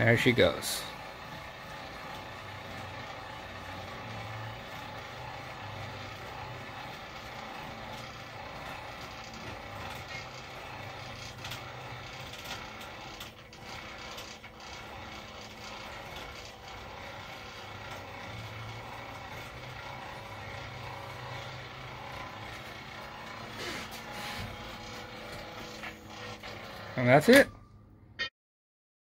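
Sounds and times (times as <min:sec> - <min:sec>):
pulley mechanism clicks: 0:00.0 - 0:27.6
motor humming and whirring: 0:00.0 - 0:28.0.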